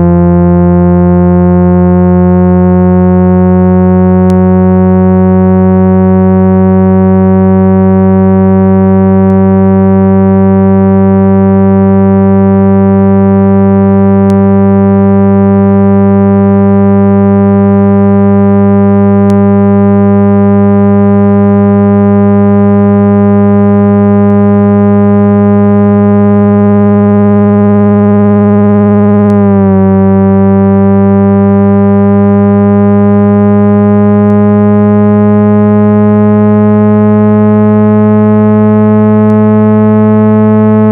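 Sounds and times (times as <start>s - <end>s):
synthesized cleaning tone: 0.0s - 40.9s.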